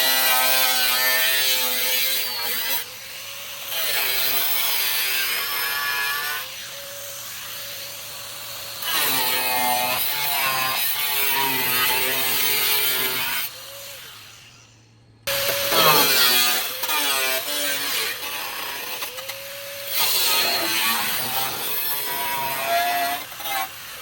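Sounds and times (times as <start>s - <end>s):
power tool cutting: 0.0s - 24.0s.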